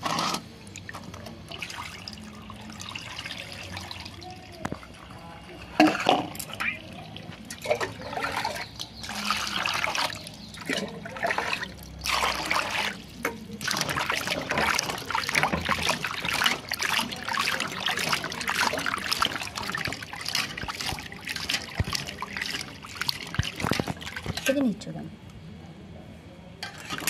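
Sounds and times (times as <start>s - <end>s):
water splashing and sloshing: 0.0s - 24.9s, 26.6s - 27.0s.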